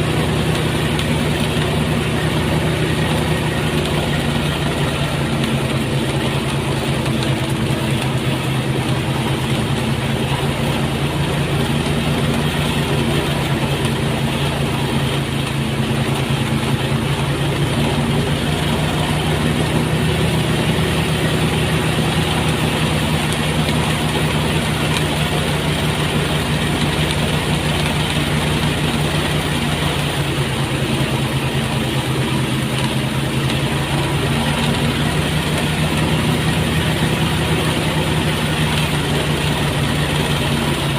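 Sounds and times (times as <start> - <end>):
thresher engine hum: 0.0 - 40.9.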